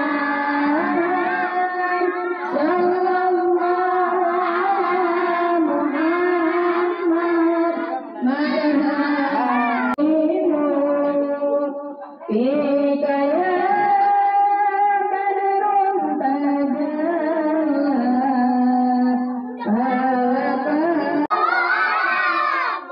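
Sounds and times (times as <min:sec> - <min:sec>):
women singing devotional songs: 0:00.0 - 0:21.7.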